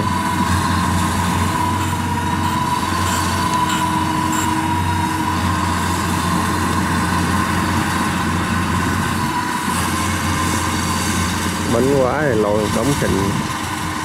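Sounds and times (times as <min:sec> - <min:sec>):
diesel engine running: 0:00.0 - 0:14.0
steady high whine: 0:00.0 - 0:14.0.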